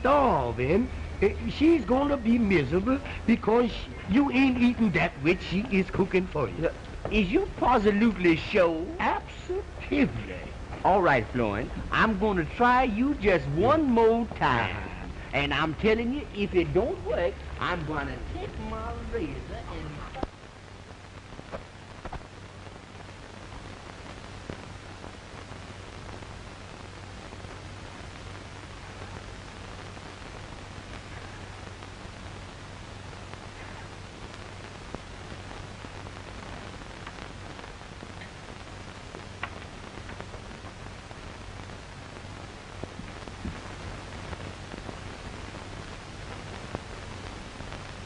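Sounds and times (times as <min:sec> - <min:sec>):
film soundtrack hiss and hum: 0:00.0 - 0:48.0.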